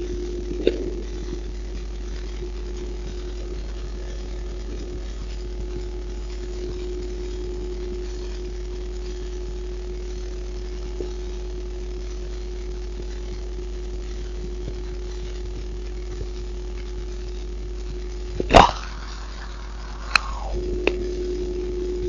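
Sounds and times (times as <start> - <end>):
heartbeat: 0.0 - 22.0
steady low hum: 0.0 - 22.0.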